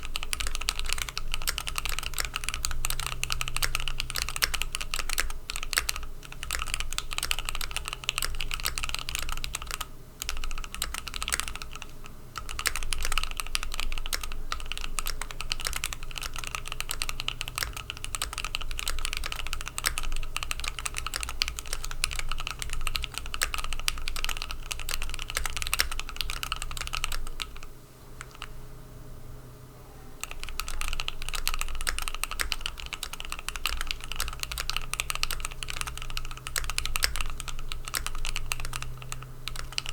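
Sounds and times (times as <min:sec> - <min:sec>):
fast mechanical keyboard typing: 0:00.0 - 0:28.6, 0:30.2 - 0:39.9.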